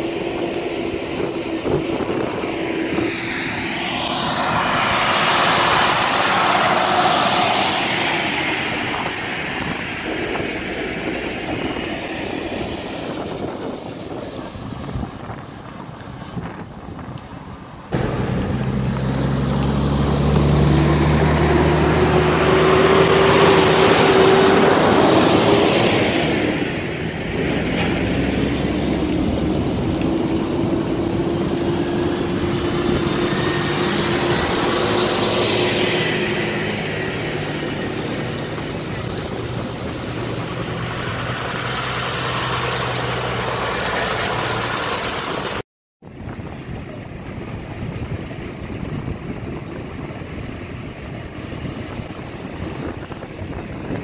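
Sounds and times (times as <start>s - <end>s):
drivetrain whine: 0.0s - 45.6s
trucks driving past: 0.0s - 45.6s.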